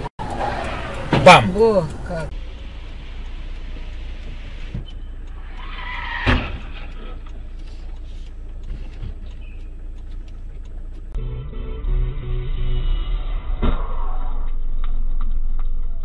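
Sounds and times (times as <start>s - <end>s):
car road noise rumble: 0.0s - 16.0s.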